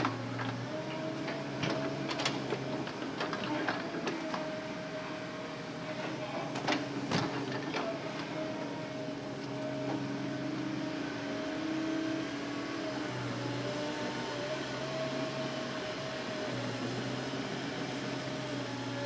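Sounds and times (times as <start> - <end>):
excavator engine and hydraulics whine: 0.0 - 19.0.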